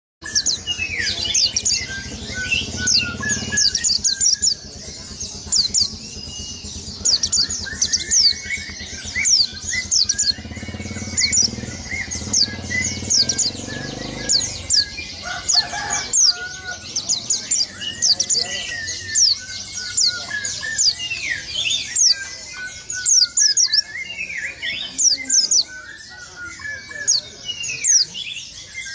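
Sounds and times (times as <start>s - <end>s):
bird chirping and warbling: 0.2s - 28.9s.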